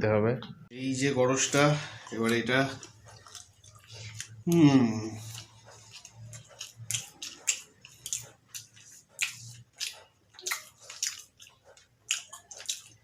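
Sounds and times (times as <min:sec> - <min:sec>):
wet chewing: 0:01.3 - 0:13.0.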